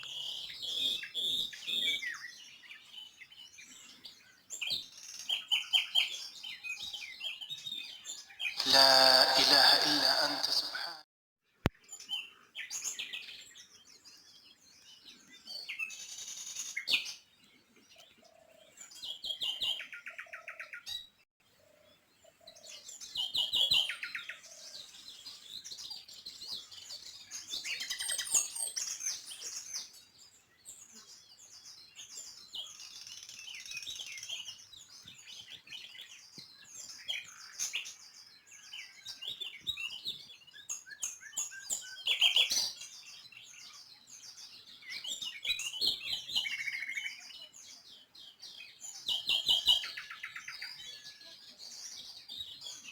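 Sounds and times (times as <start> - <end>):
small birds chirping and trilling: 0.0 - 9.2, 11.6 - 52.9.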